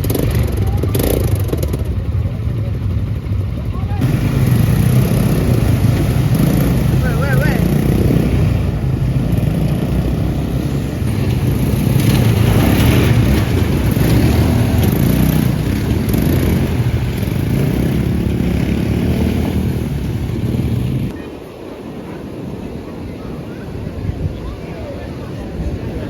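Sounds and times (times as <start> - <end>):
small vehicle engine running: 0.0 - 21.2.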